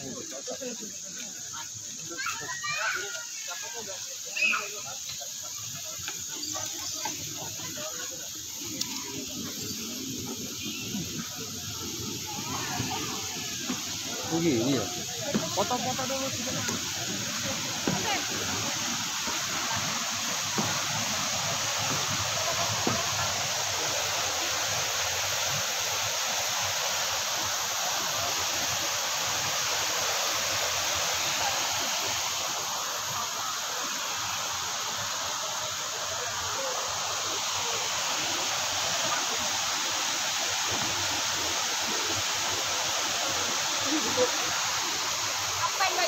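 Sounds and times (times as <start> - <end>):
waterfall rushing over rocks: 0.0 - 46.0.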